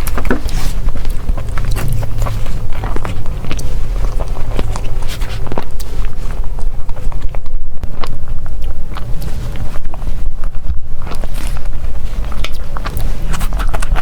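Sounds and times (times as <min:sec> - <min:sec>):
biting and chewing: 0:00.0 - 0:14.0
low rumble: 0:00.0 - 0:14.0.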